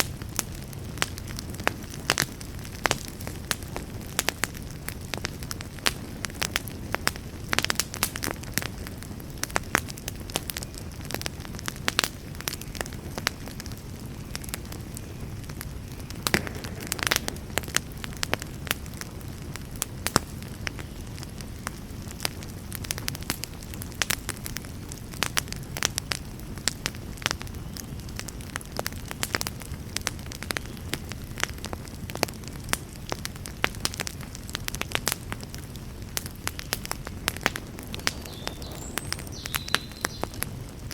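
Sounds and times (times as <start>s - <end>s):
fire crackling and popping: 0.0s - 40.9s
wood fire rumbling: 0.0s - 40.9s.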